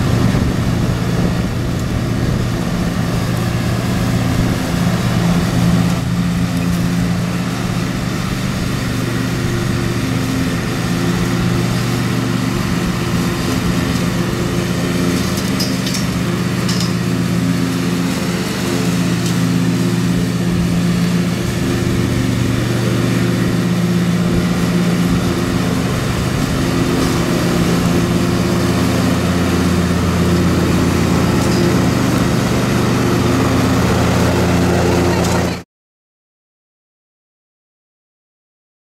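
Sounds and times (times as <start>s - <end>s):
riding lawn mower engine: 0.0s - 35.6s.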